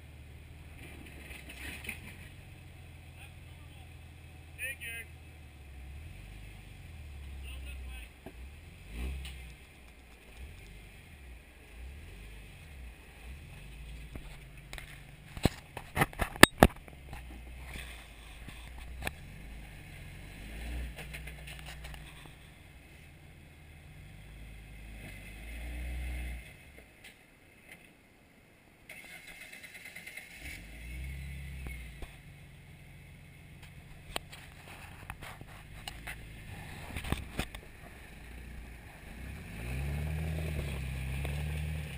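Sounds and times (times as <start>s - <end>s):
off-road vehicle engine rumble: 0.0s - 41.9s.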